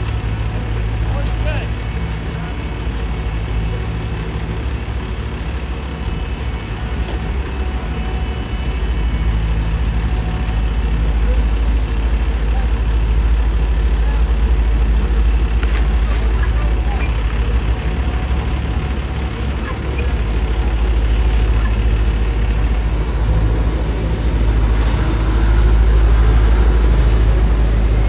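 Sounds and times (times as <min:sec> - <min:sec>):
diesel paving equipment engine hum: 0:00.0 - 0:28.0.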